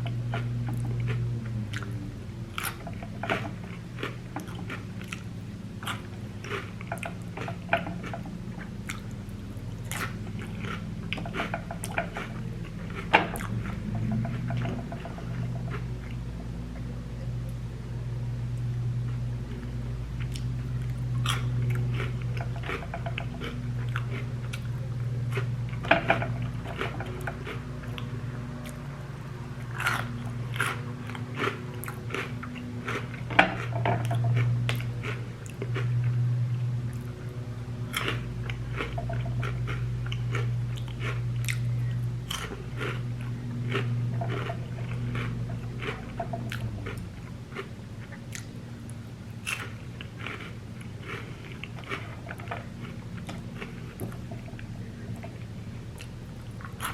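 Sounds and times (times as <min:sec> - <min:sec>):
crunching and chewing snacks: 0:00.0 - 0:17.6, 0:19.0 - 0:56.9
lawn mower engine drone: 0:00.0 - 0:56.9.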